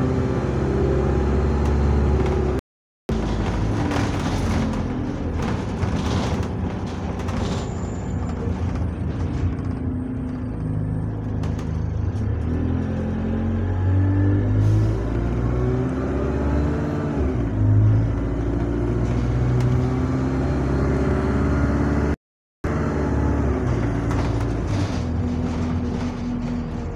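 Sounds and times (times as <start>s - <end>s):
bus diesel engine accelerating: 0.0s - 26.9s.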